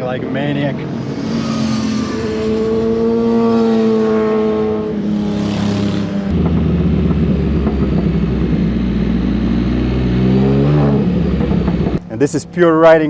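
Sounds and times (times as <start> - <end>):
three-cylinder engine running: 0.0 - 13.0.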